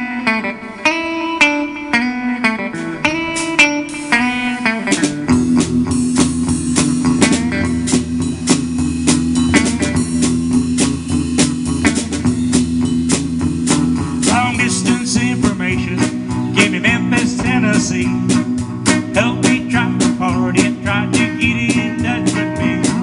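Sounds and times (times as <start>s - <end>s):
guitar melody with bending notes: 0.0s - 23.0s
live band music: 0.0s - 23.0s.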